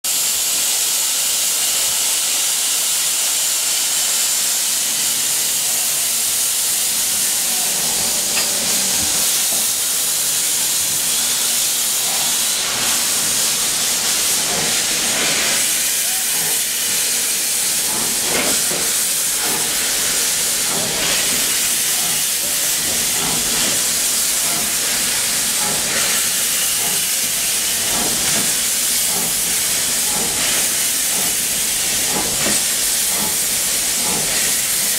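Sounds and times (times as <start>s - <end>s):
steam hissing: 0.1s - 34.9s
steam locomotive exhaust beats: 0.1s - 34.9s.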